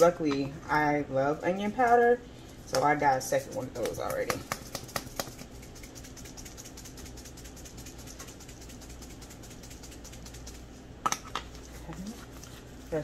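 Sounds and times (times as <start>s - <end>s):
spice bottle shaken rattling: 1.7s - 13.0s.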